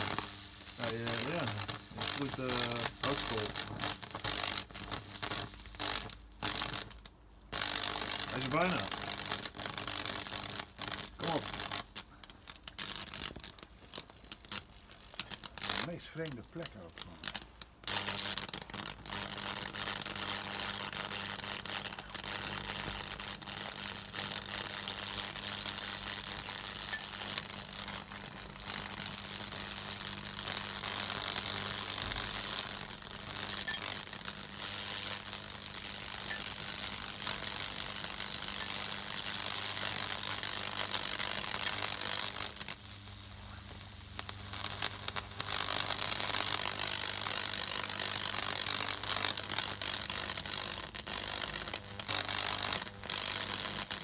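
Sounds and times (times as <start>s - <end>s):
electric arc crackling sizzle: 0.0s - 54.0s.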